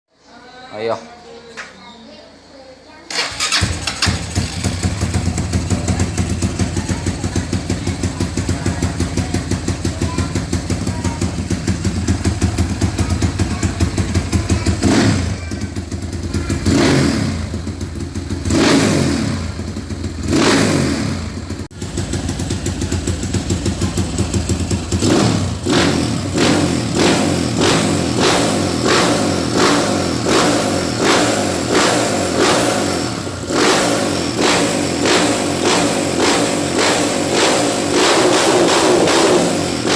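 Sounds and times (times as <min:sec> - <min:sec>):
motocross bike engine revving: 0:03.1 - 0:39.9.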